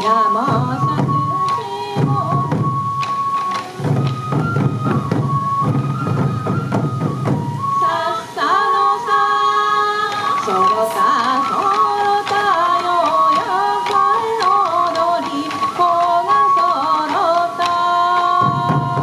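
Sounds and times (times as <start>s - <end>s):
taiko drums beating: 0.0s - 7.8s, 10.1s - 19.0s
flute melody: 0.0s - 19.0s.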